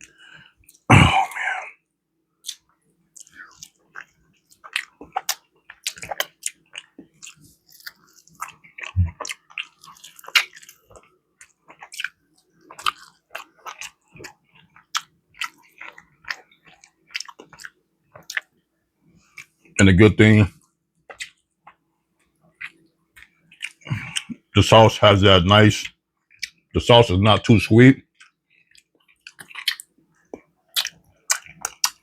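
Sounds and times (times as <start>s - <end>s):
close chewing and crunching: 0.0s - 1.5s, 2.4s - 18.6s, 19.2s - 19.8s, 20.6s - 24.7s, 25.3s - 32.0s.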